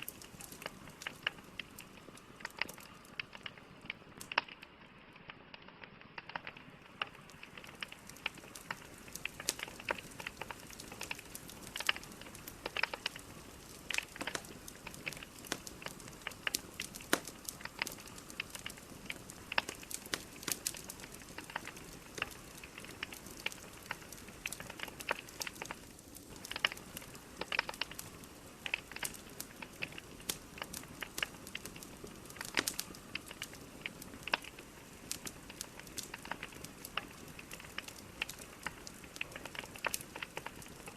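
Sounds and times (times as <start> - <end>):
burning logs crackling: 0.0 - 40.9.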